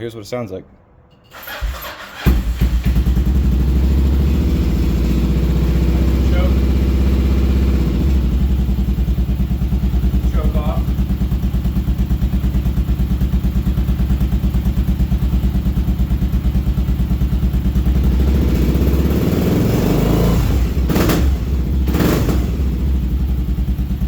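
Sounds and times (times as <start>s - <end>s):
motorcycle engine idling and revving: 1.4s - 24.0s.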